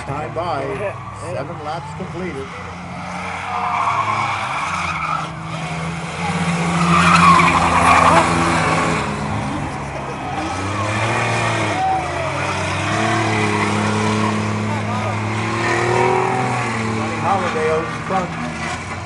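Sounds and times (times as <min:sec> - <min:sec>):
race truck engines passing: 0:00.0 - 0:19.0
tyres squealing and skidding: 0:00.0 - 0:19.0.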